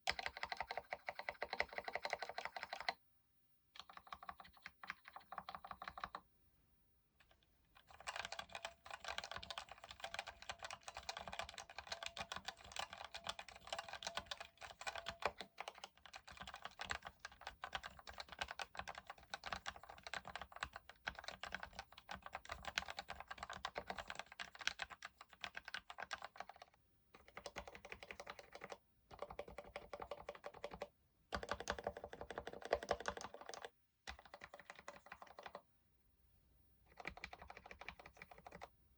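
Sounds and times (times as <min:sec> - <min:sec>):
mechanical keyboard typing: 0:00.0 - 0:03.0, 0:03.8 - 0:06.2, 0:07.8 - 0:35.6, 0:36.9 - 0:38.7.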